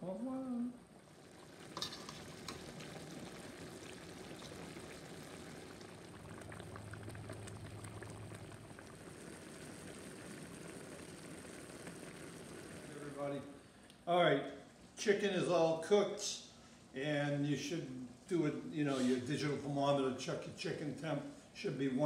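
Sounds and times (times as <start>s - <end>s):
soft bubbling of simmering pans: 0.0s - 22.0s.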